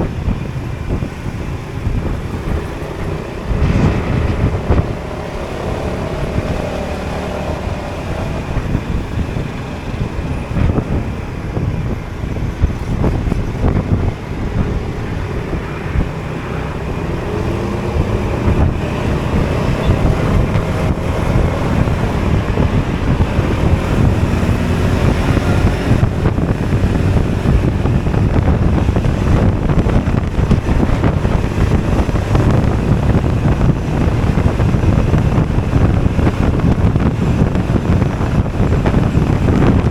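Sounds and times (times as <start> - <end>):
road noise: 0.0 - 39.9
scooter engine running: 0.0 - 39.9
wind buffeting on microphone: 0.0 - 39.9.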